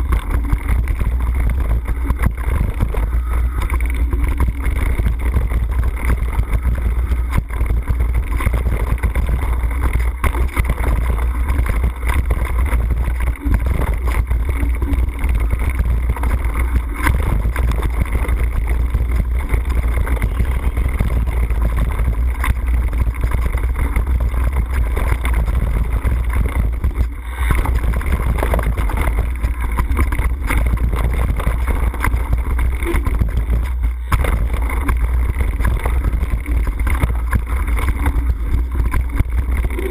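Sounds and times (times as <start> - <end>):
wind and tyre rumble: 0.0 - 39.9.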